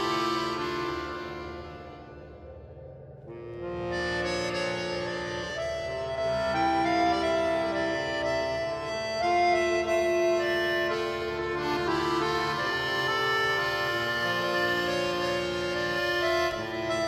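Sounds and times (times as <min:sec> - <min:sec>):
slow organ chords: 0:00.0 - 0:17.0.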